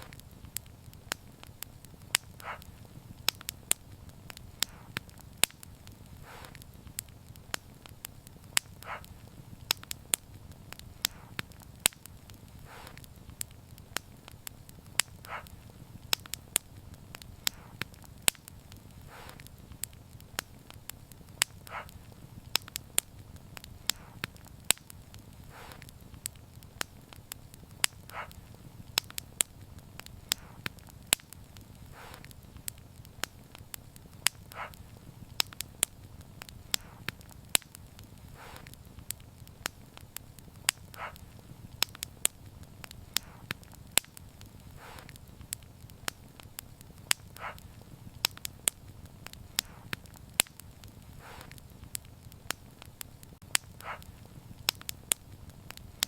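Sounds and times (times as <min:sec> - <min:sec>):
faint hisses: 0:00.0 - 0:56.0
wood fire crackling and popping: 0:00.0 - 0:56.0.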